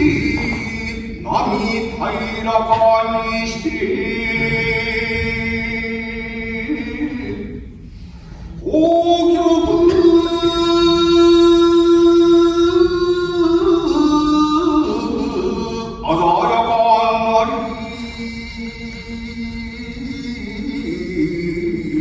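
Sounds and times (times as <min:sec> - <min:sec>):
person chanting a poem: 0:00.0 - 0:07.8, 0:08.5 - 0:22.0.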